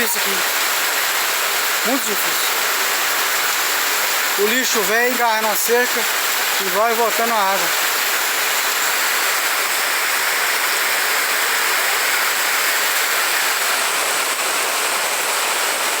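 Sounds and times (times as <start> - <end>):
heavy rain: 0.0 - 16.0
storm runoff rushing down street: 0.0 - 16.0.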